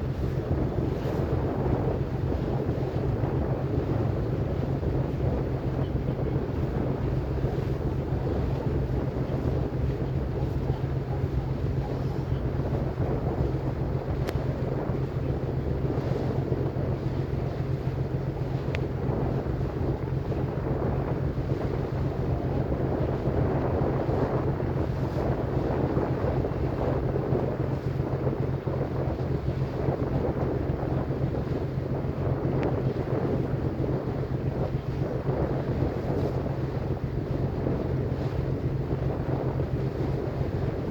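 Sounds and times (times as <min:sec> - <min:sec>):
boat engine droning: 0:00.0 - 0:40.9
wind buffeting microphone: 0:00.0 - 0:40.9.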